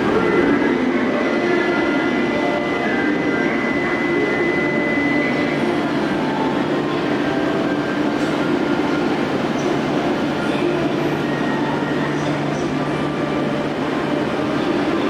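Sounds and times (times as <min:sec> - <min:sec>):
faint high whine: 0:00.0 - 0:15.0
train running noise: 0:00.0 - 0:15.0.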